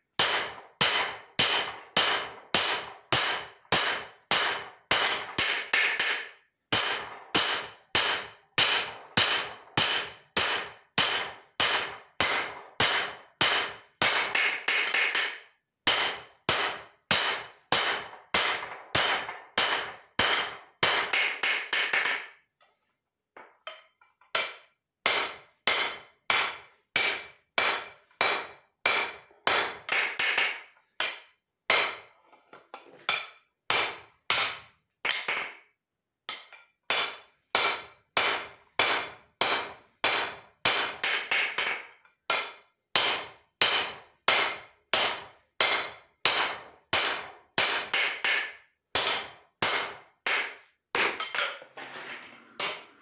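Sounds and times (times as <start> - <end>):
hammer striking steel on anvil: 0.2 - 22.3, 24.4 - 32.1, 33.1 - 35.6, 36.3 - 51.6, 52.6 - 53.0.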